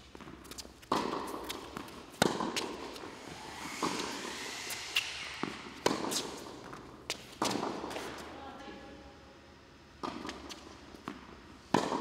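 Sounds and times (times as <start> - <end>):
racquets striking tennis ball: 0.0 - 8.3, 10.0 - 12.0
ball bouncing on hard court: 0.1 - 8.3, 10.0 - 12.0.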